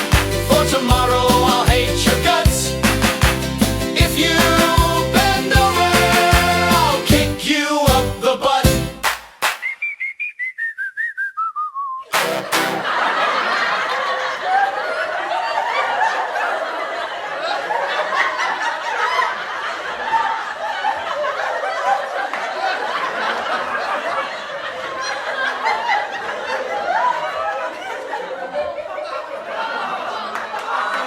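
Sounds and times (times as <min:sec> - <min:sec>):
crowd laughing: 0:00.0 - 0:07.1, 0:12.1 - 0:31.0.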